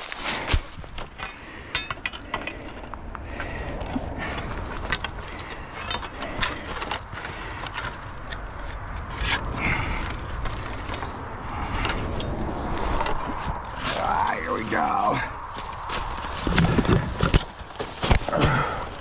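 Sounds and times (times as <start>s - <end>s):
twigs crackling and snapping: 0.0s - 1.6s, 2.7s - 18.4s
steady low rumble: 0.0s - 18.0s.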